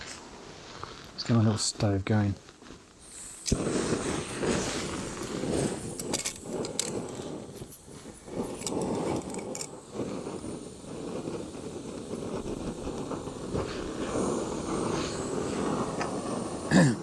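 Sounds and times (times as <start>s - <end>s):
gas stove burner hissing: 2.9s - 17.0s.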